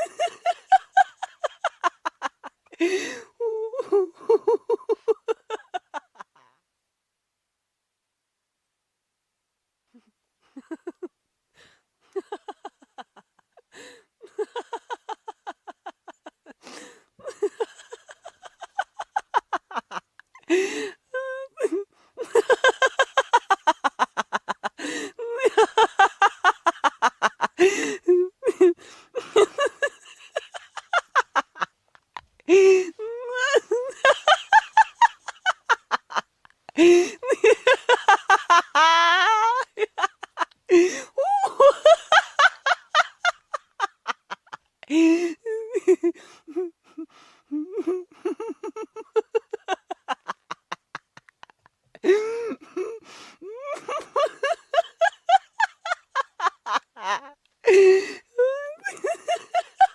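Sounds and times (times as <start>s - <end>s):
person laughing hard: 0.0s - 6.5s, 10.6s - 11.1s, 12.2s - 31.7s, 32.4s - 59.9s.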